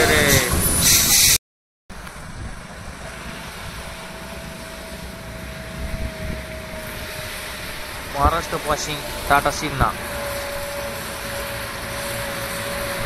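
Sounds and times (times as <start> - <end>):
truck engine: 0.0 - 13.0
motorcycle engine: 2.3 - 13.0.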